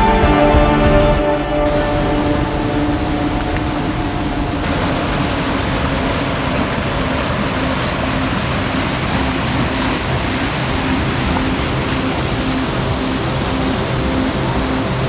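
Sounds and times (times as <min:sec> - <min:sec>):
waterfall rushing water: 0:01.7 - 0:15.0.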